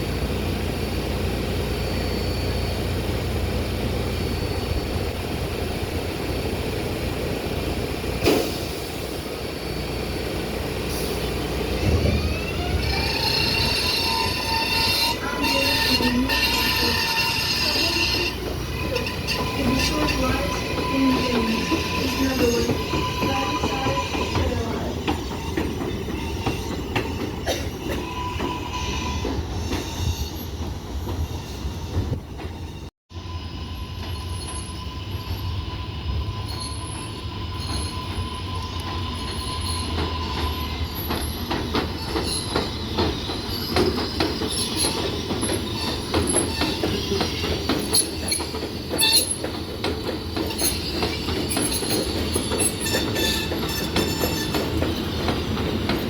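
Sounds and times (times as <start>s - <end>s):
subway train wheels rumbling: 0.0s - 56.0s
high wheel squeal: 0.8s - 5.6s, 8.4s - 56.0s.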